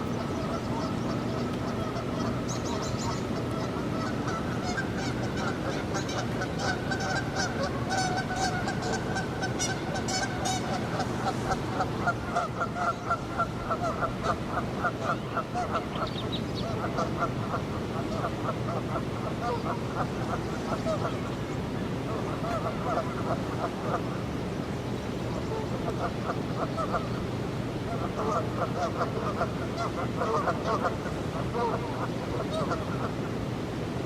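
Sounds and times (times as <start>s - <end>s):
geese honking: 0.0s - 21.4s, 22.0s - 24.2s, 25.3s - 27.2s, 27.8s - 33.2s.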